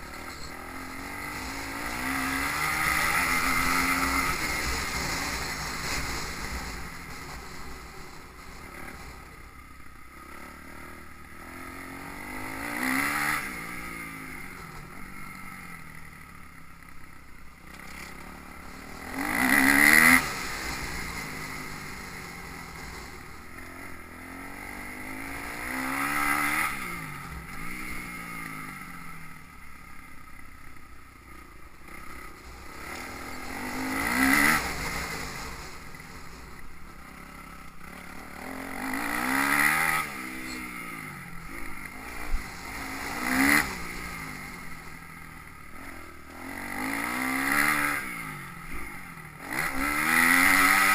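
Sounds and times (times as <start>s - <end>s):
motocross bikes revving past: 0.0s - 9.4s, 10.2s - 16.0s, 17.7s - 30.0s, 31.8s - 50.9s.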